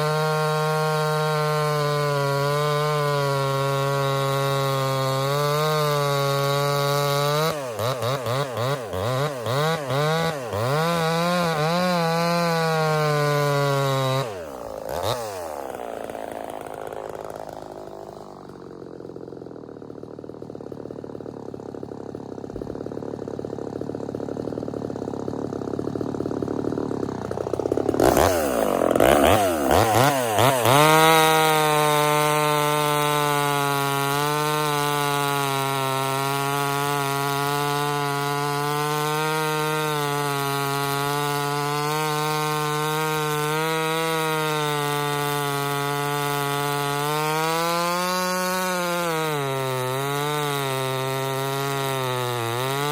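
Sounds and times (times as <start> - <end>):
chainsaw revving: 0.0 - 52.9.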